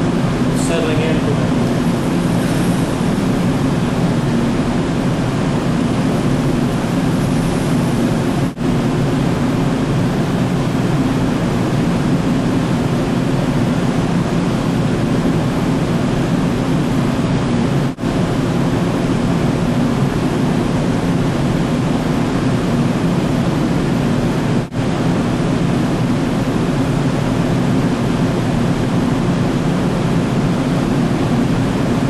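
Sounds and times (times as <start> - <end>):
low machinery hum: 0.0 - 32.0
ship machinery rushing drone: 0.0 - 32.0.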